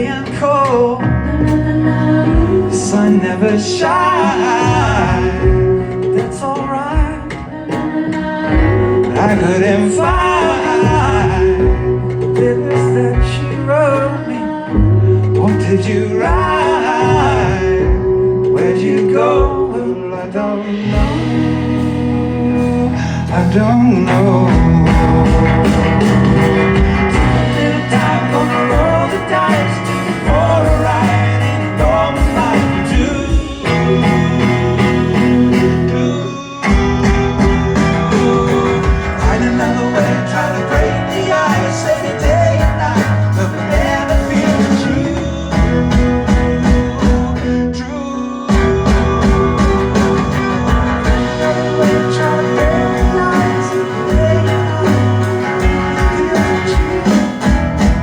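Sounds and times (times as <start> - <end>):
rock band playing: 0.0 - 58.0
wordless singing: 0.0 - 58.0.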